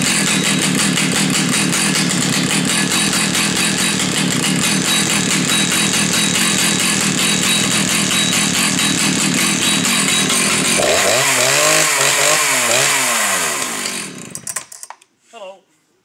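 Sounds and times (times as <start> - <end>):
chainsaw idling and revving: 0.0 - 14.9.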